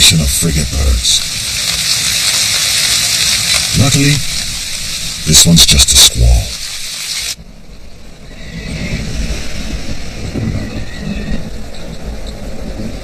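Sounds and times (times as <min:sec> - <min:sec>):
gusting wind: 0:00.0 - 0:13.0.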